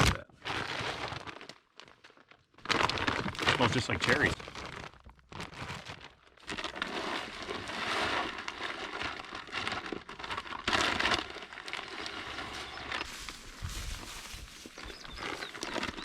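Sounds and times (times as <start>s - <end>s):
grain pouring from a bag: 0.4s - 16.0s.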